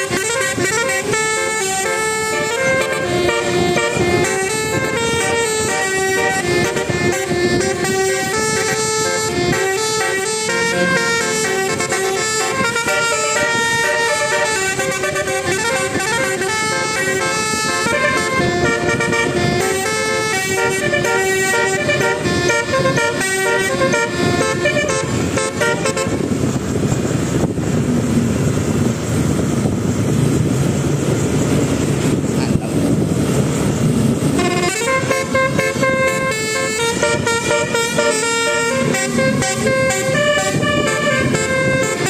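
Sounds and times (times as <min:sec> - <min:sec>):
multi-trumpet air horn tune: 0:00.0 - 0:26.3, 0:34.2 - 0:42.0
vehicle passing: 0:00.0 - 0:42.0.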